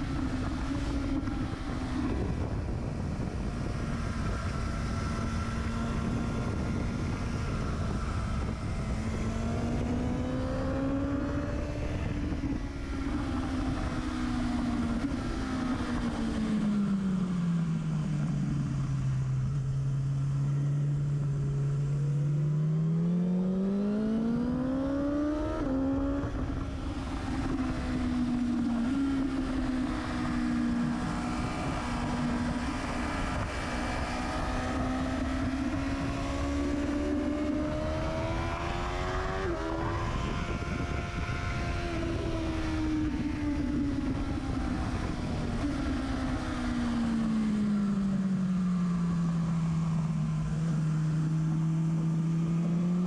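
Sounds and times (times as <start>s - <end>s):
motorcycle engine revving: 0.0s - 18.9s, 19.5s - 53.0s.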